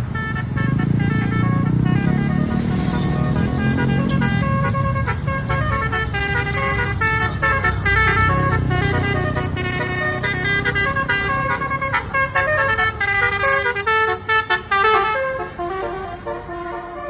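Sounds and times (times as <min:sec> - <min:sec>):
low engine rumble: 0:00.0 - 0:17.0
multi-tone bus horn melody: 0:00.0 - 0:17.0.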